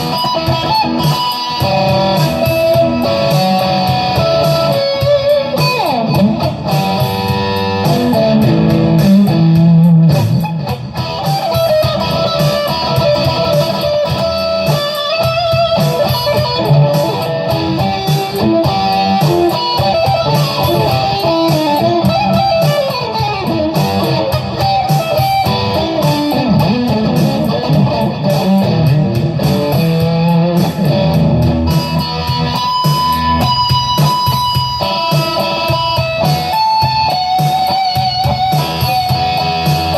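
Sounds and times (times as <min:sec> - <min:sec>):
electric guitar lead lines: 0:00.0 - 0:39.9.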